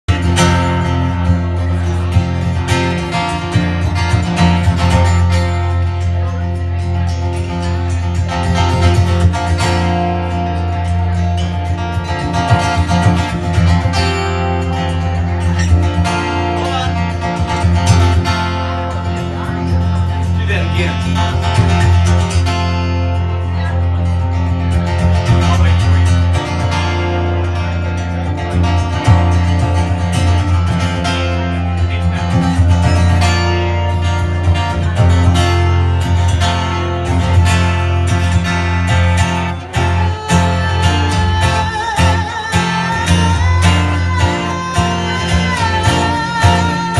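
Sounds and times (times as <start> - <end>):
acoustic guitar strumming and picking: 0.0 - 46.9.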